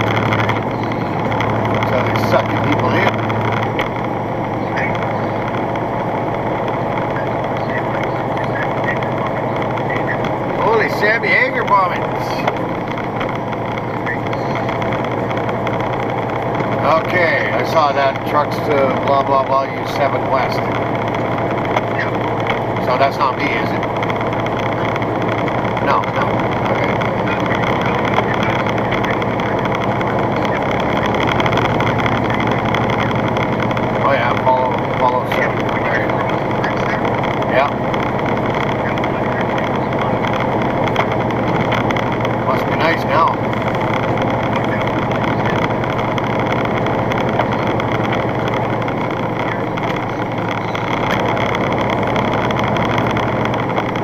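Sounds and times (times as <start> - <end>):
truck engine and tyre noise: 0.0 - 54.0.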